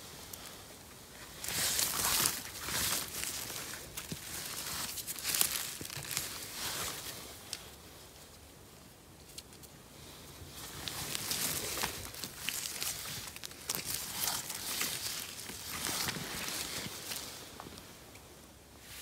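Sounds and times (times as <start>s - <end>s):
rustling of moss and pine needles: 0.0s - 19.0s.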